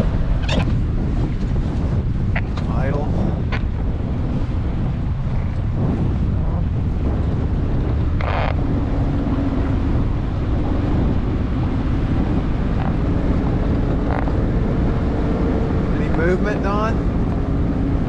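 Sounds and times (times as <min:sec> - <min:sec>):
boat engine running: 0:00.0 - 0:18.0
wind buffeting microphone: 0:00.0 - 0:18.0.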